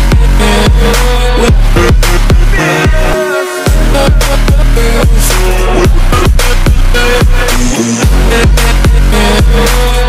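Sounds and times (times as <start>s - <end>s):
loud electronic music with bass: 0.0s - 10.0s.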